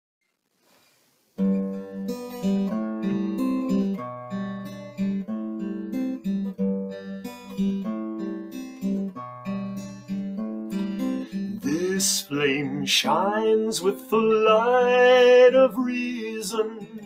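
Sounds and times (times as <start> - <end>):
acoustic guitar plucking chords: 1.4 - 17.0.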